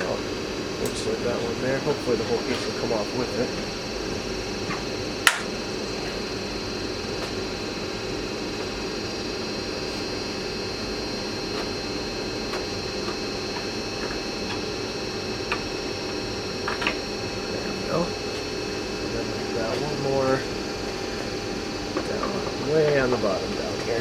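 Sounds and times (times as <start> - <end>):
mechanical fan hum: 0.0 - 24.0.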